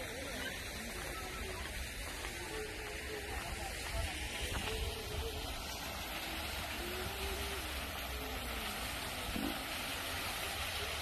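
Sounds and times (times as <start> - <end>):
waterfall pouring into pond: 0.0 - 11.0.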